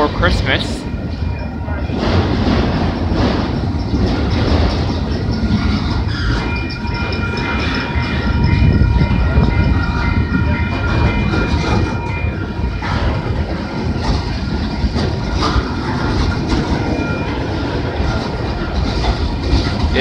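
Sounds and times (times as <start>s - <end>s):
freight cars rumbling past: 0.0s - 20.0s
high-pitched squeal: 0.8s - 20.0s
wheels clacking over rail joints: 0.9s - 20.0s.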